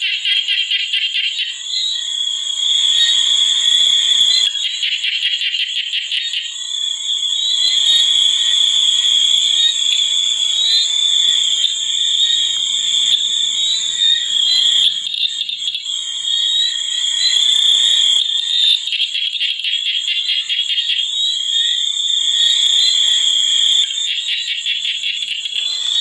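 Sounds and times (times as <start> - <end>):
chorus of shrill trilling animals: 0.0 - 26.0.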